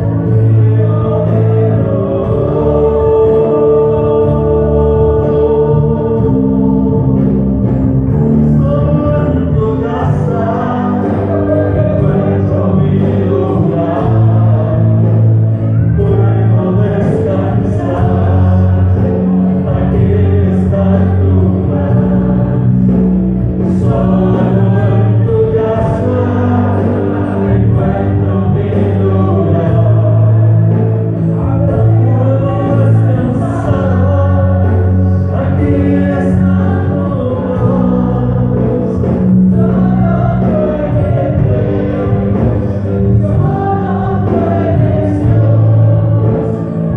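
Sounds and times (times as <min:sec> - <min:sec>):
gospel worship music: 0:00.0 - 0:46.9
voices singing along: 0:00.0 - 0:46.9.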